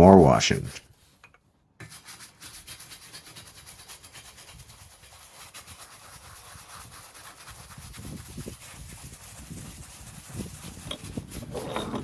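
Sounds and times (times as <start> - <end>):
brush scrubbing metal: 1.9 - 12.0.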